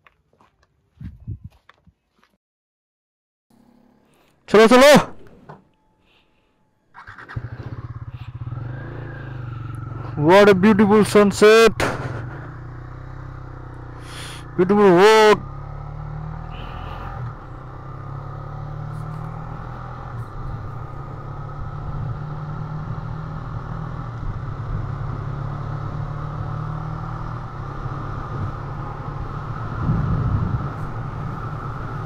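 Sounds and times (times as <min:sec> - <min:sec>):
motorcycle engine running: 0:03.5 - 0:04.5, 0:06.9 - 0:32.0.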